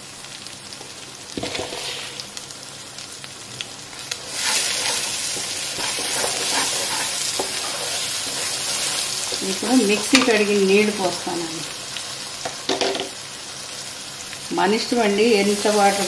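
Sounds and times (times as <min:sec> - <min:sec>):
paste sizzling in a pan: 0:00.0 - 0:16.0.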